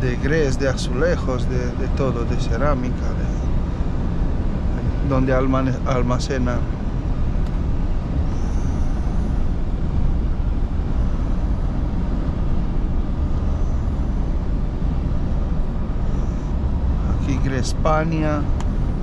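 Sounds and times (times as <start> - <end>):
road and wind noise: 0.0 - 19.0
truck engine drone: 0.0 - 19.0.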